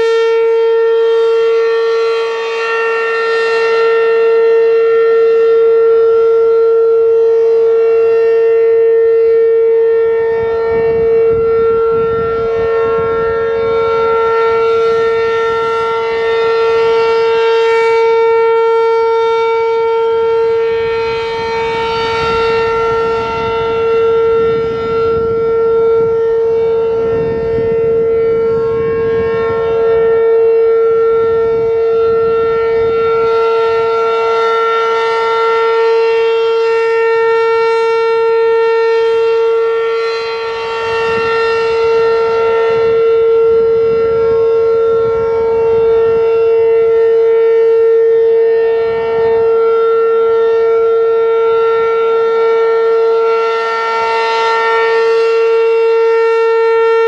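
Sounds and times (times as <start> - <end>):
warning siren steady tone: 0.0 - 57.0.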